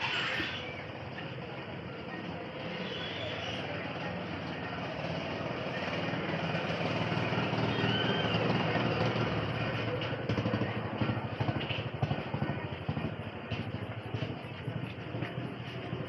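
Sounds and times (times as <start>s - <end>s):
motor vehicle passing: 0.0s - 16.0s.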